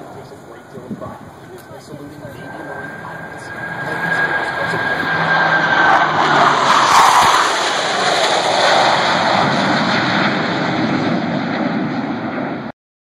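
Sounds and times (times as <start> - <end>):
jet aircraft flying past: 0.0 - 12.7.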